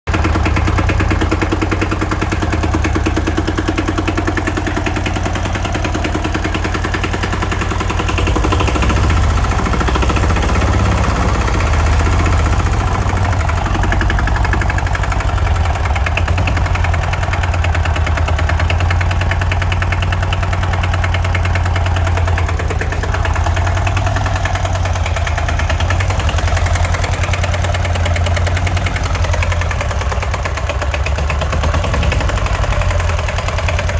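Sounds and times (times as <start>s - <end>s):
diesel engine running steadily: 0.1s - 33.9s.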